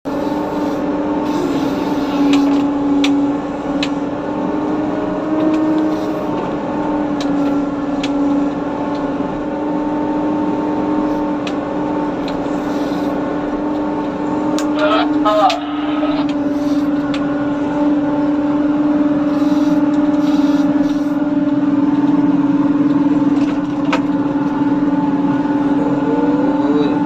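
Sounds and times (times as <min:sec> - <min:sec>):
diesel engine droning: 0:00.0 - 0:27.0.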